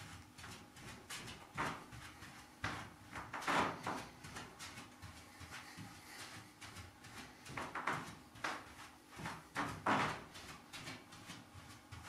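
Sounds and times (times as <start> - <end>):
footsteps shuffling on carpet: 0.0 - 12.0.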